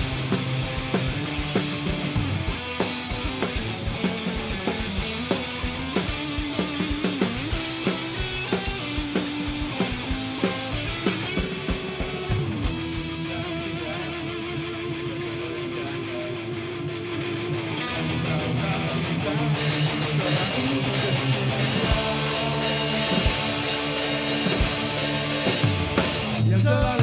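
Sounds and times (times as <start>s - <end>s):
guitar lead melody: 0.0s - 26.5s
steady drum beat: 0.0s - 27.0s.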